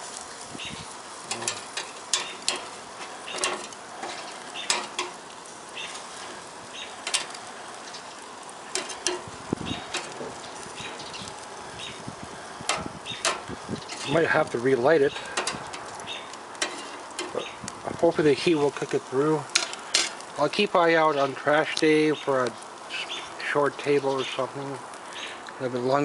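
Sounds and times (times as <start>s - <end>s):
burgers sizzling on a grill: 0.0s - 26.0s
crackles and pops: 0.0s - 26.0s.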